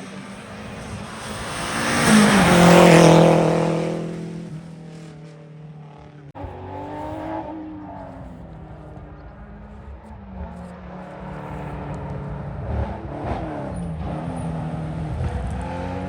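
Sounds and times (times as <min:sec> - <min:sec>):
engine rising in pitch: 0:00.0 - 0:16.0
rally car passing at speed: 0:00.0 - 0:16.0.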